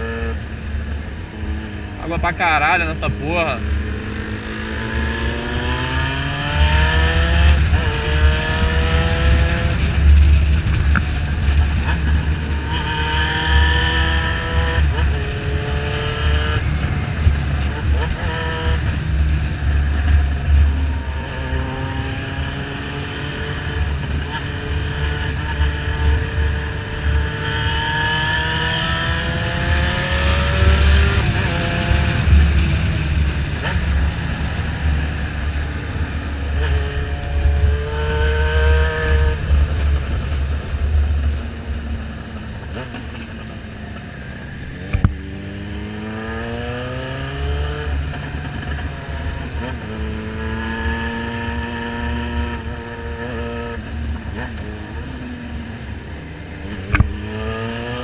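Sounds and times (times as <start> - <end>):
low rumble of wind: 0.0 - 58.0
motorcycle engine accelerating: 0.0 - 58.0.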